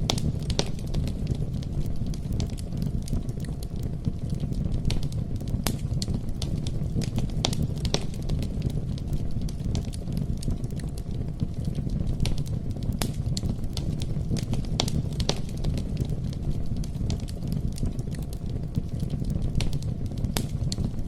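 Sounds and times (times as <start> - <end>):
campfire flames rumbling: 0.0 - 21.0
fire pops and snaps: 0.0 - 21.0.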